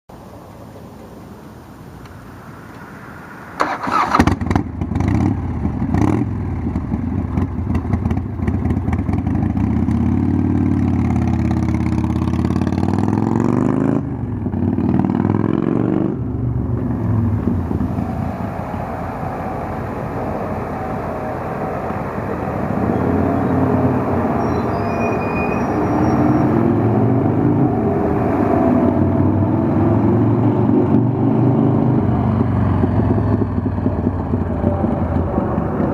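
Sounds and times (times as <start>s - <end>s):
motorcycle engine accelerating: 3.6s - 35.9s.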